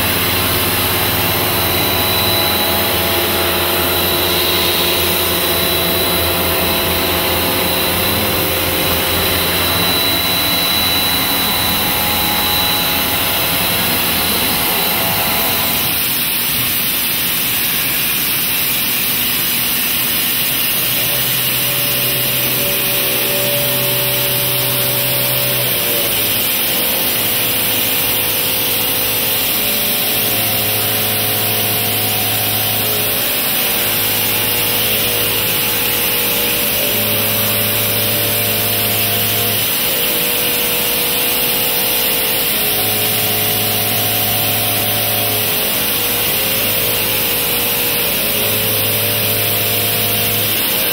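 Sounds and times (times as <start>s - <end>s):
steady hums: 0.0s - 16.2s, 20.6s - 50.9s
milling machine cutting metal: 0.0s - 50.9s.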